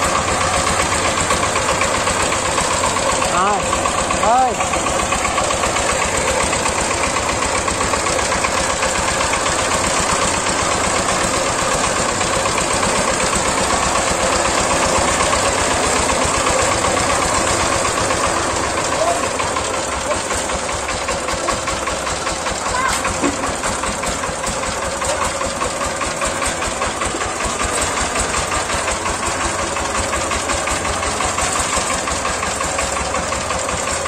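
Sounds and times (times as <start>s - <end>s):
diesel engine chugging: 0.0s - 34.0s.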